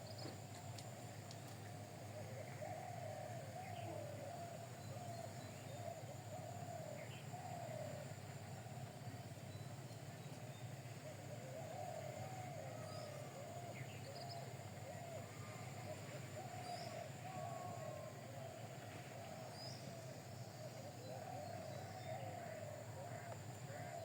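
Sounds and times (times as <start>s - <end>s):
birds calling: 0.0s - 24.0s
steady low hum: 0.0s - 24.0s.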